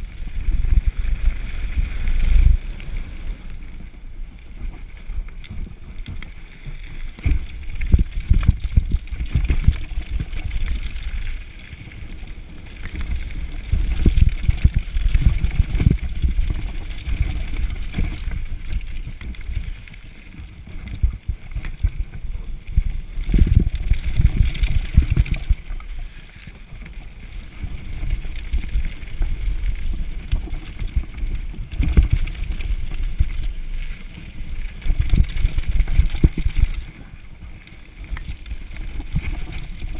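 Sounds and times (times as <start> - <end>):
wind buffeting microphone: 0.0 - 19.6, 20.4 - 26.0, 27.4 - 39.9
bike knocking and rattling: 4.4 - 39.9.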